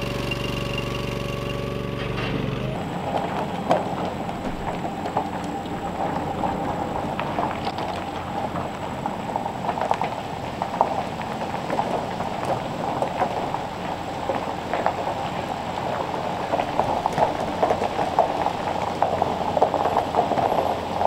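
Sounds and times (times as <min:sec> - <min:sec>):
truck tires crunching gravel: 0:00.0 - 0:21.0.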